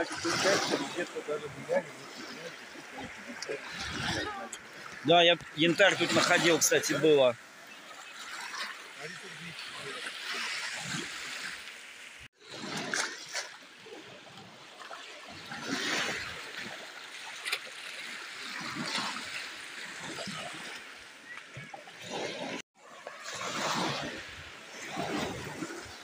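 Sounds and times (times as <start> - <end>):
small waves lapping at shore: 0.0 - 26.0.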